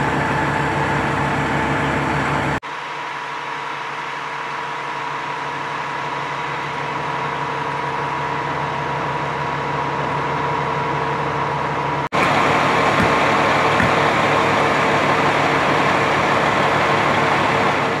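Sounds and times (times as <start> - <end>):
truck diesel engine idling: 0.0 - 18.0.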